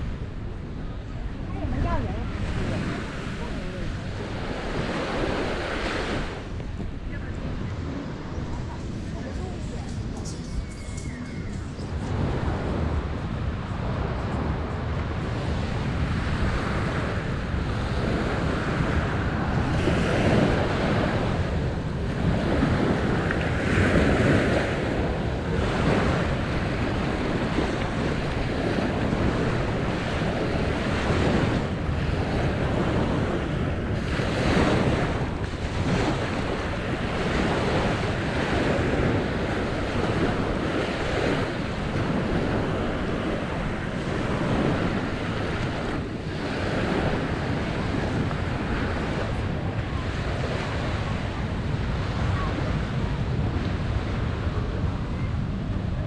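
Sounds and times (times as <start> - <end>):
waves washing on shore: 0.0 - 56.0
wind buffeting microphone: 0.0 - 56.0.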